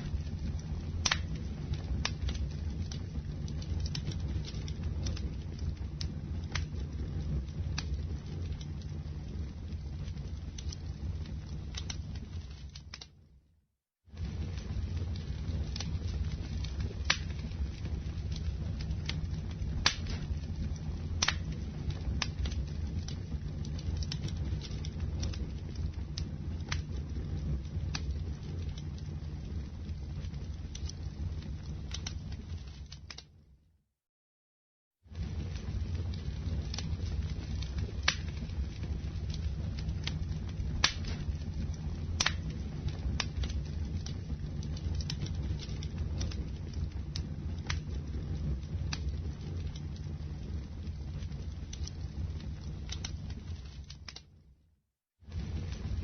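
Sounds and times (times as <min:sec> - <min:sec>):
burning wood crackling and popping: 0:00.0 - 0:13.3, 0:14.1 - 0:33.4, 0:35.1 - 0:54.5, 0:55.2 - 0:56.0
rumble of flames: 0:00.0 - 0:33.8, 0:34.9 - 0:56.0.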